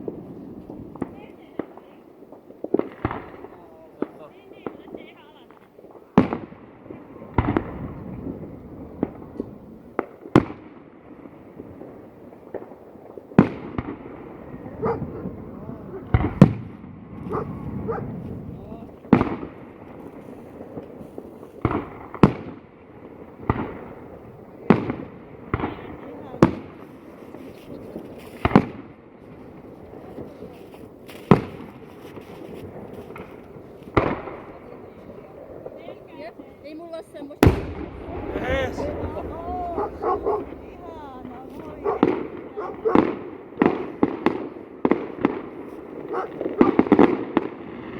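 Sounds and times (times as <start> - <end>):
small firework pops: 0.0 - 6.6, 7.3 - 10.8, 11.9 - 14.1, 16.0 - 22.6, 23.4 - 24.0, 24.6 - 35.8, 37.4 - 47.9
fireworks bangs with echoing rumble: 0.0 - 47.9.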